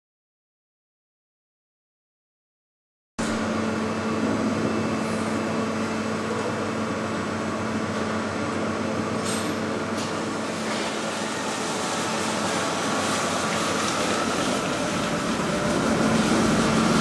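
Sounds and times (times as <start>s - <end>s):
machine hum: 3.2s - 17.0s.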